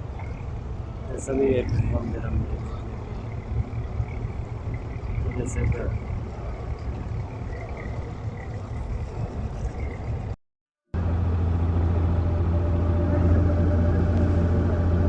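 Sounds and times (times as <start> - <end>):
boat diesel engine droning: 0.0 - 10.4, 11.0 - 15.0.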